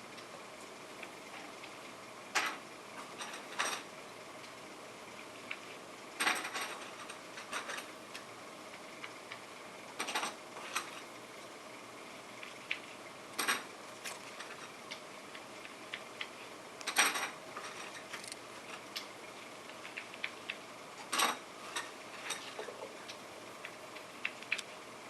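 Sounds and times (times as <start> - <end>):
steady low hiss: 0.0 - 25.0.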